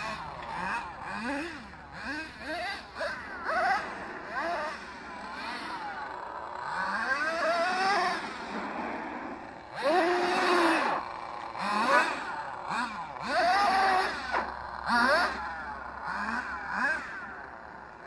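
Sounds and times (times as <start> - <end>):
rc truck nitro engines revving: 0.0 - 18.0.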